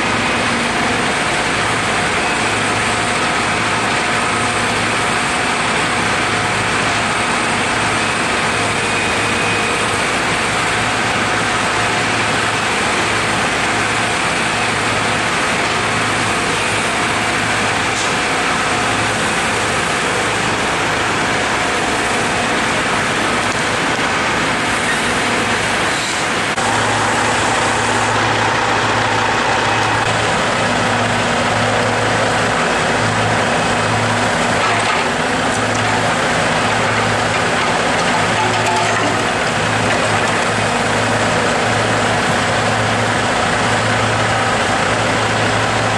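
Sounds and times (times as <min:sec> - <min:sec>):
diesel truck engine humming: 0:00.0 - 0:45.9
road noise: 0:00.0 - 0:45.9.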